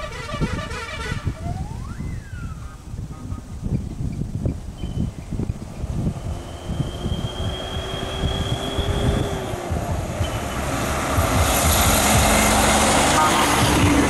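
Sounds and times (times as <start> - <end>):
diesel bus accelerating: 0.0 - 14.0
tyre and wind noise: 0.0 - 14.0.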